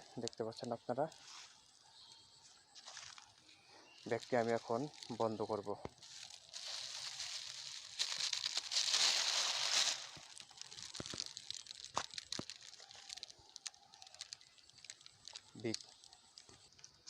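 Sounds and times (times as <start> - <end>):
light crackles: 0.0 - 17.0
plastic bag rustling and crinkling: 2.8 - 17.0.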